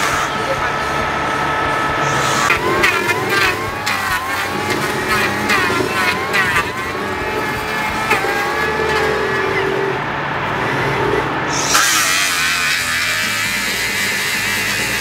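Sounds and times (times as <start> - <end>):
electric power planer whining: 0.0 - 15.0
loud hissing: 0.0 - 15.0.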